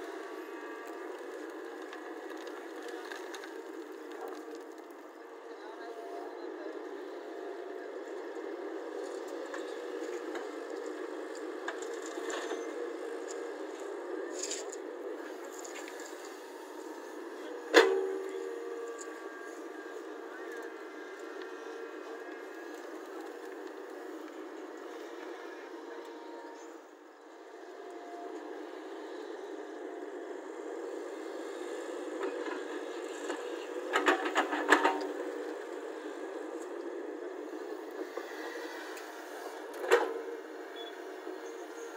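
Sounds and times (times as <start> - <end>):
excavator running: 0.0 - 41.9.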